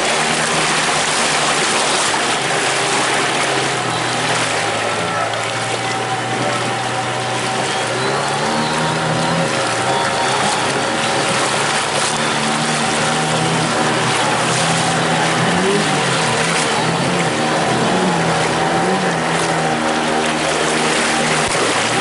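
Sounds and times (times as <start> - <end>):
motorboat engine running hard: 0.0 - 22.0
white water rushing: 0.0 - 22.0.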